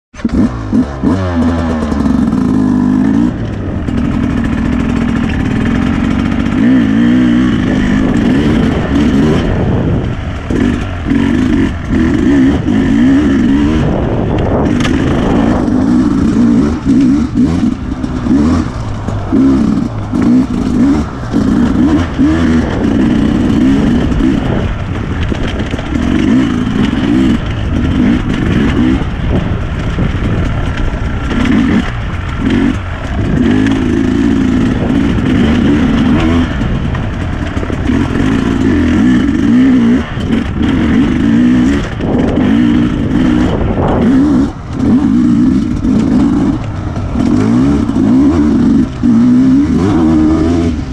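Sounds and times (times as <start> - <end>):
dirt bike engine revving: 0.2 - 50.9.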